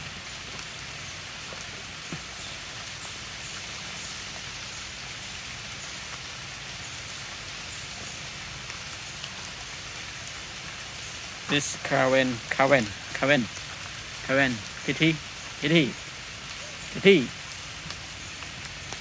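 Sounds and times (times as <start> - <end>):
rain falling on rocks and leaves: 0.0 - 19.0.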